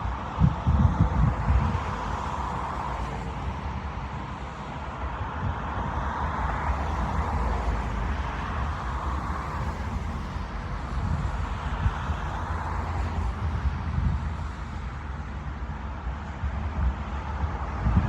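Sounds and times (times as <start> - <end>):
road traffic hum: 0.0 - 18.0.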